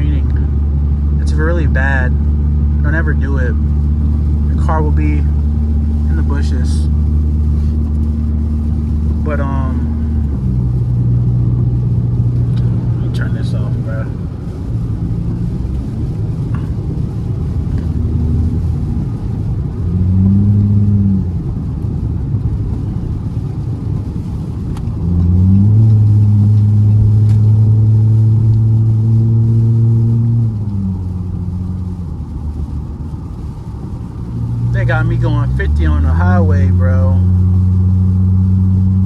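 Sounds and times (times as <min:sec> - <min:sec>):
car engine accelerating: 0:00.0 - 0:39.0
road noise: 0:00.0 - 0:39.0.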